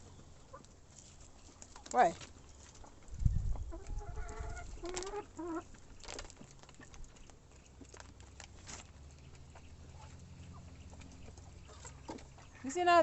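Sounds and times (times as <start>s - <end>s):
chicken clucking: 0.1s - 8.1s, 9.0s - 13.0s
chickens pecking taps: 0.4s - 13.0s.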